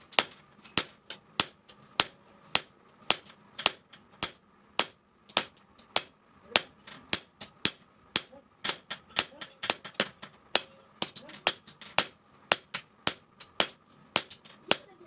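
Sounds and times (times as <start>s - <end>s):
hammer striking steel on anvil: 0.0s - 15.0s.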